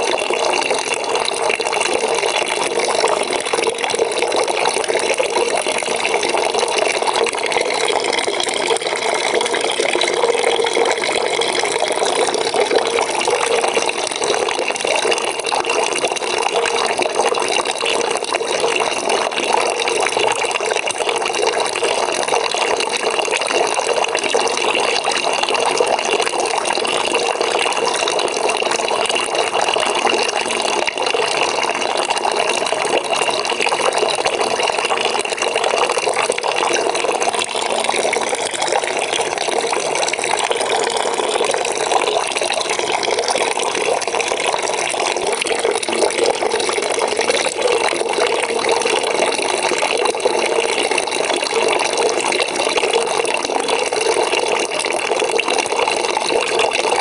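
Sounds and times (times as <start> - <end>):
water pouring into bucket: 0.0 - 57.0.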